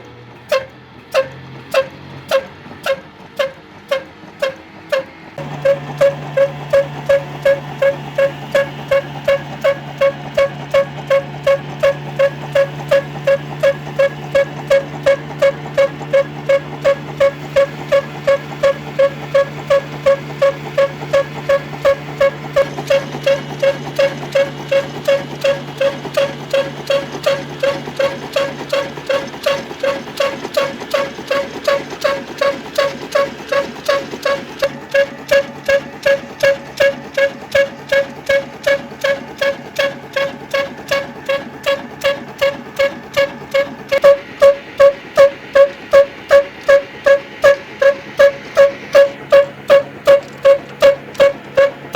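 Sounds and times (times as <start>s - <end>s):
stationary engine running slowly: 0.0s - 51.9s.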